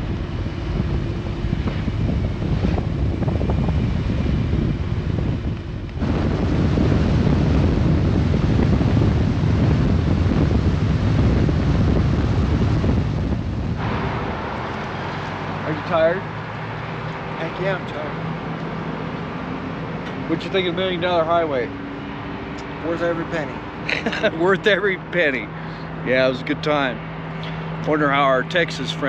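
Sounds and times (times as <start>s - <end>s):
motorcycle rumble: 0.0s - 29.0s
wind rushing over microphone: 0.0s - 29.0s.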